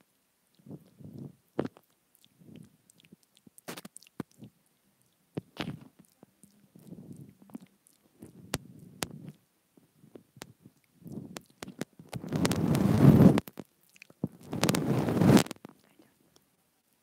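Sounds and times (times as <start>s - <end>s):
soft mouth noises: 0.0s - 17.0s.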